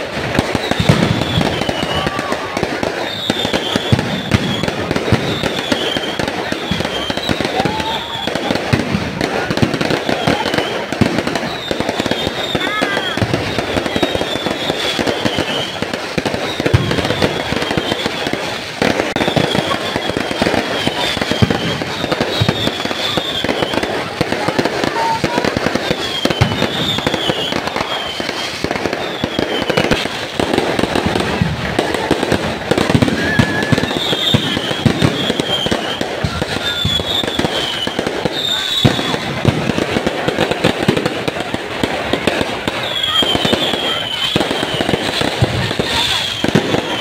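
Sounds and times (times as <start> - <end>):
firework whistles: 0.0 - 47.0
fireworks crackling and banging: 0.0 - 47.0.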